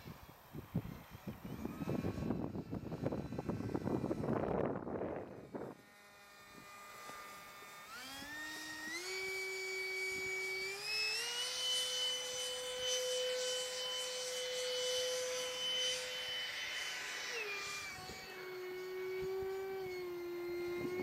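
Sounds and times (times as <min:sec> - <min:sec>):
electric ducted fan whining: 0:00.0 - 0:21.0.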